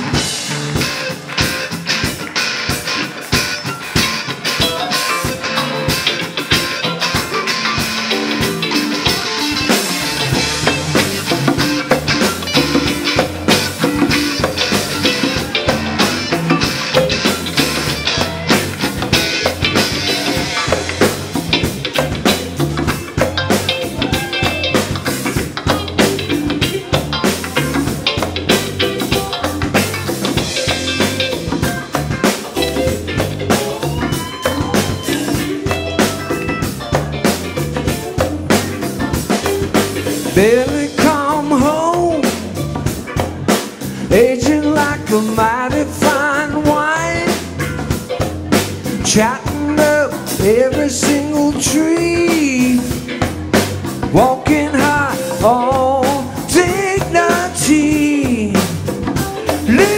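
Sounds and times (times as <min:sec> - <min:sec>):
drum kit steady beat: 0:00.0 - 0:59.9
electric bass: 0:00.0 - 0:59.9
electric guitars: 0:00.0 - 0:59.9
keyboard: 0:00.0 - 0:59.9.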